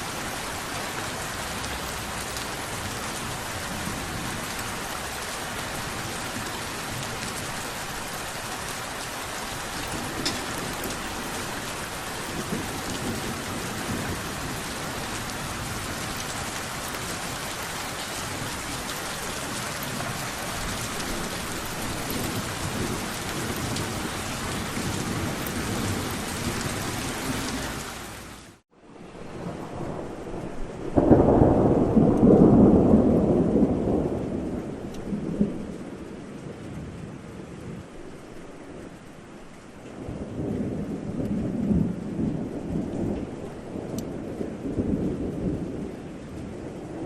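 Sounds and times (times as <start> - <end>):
thunder rumble: 0.0 - 28.2, 28.9 - 47.0
steady rain: 0.0 - 47.0.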